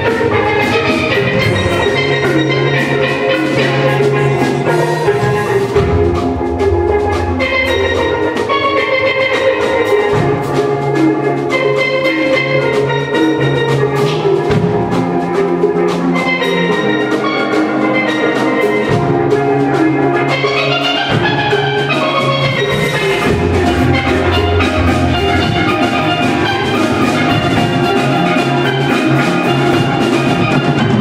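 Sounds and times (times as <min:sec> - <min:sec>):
steel drum band playing: 0:00.0 - 0:31.0.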